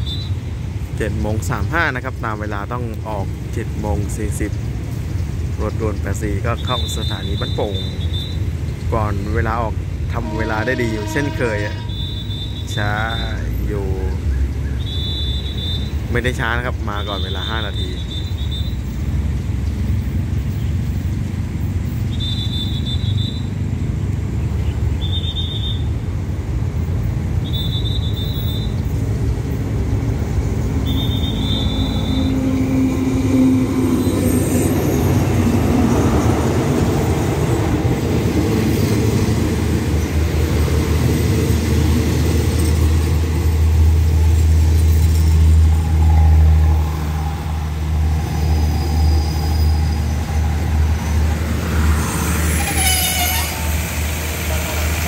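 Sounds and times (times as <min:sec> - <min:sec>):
train coaches rolling: 0:00.0 - 0:21.6, 0:24.5 - 0:55.0
diesel locomotive rumbling: 0:00.0 - 0:55.0.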